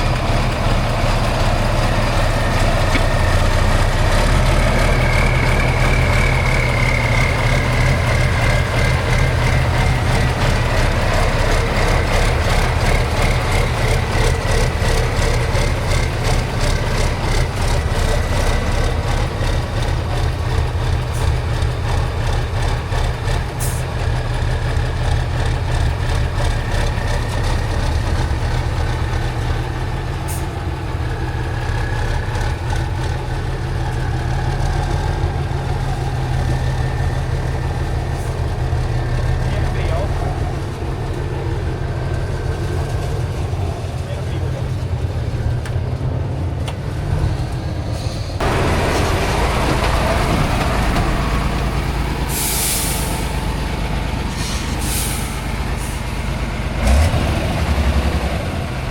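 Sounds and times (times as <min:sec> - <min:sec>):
diesel truck engine running: 0:00.0 - 0:58.9.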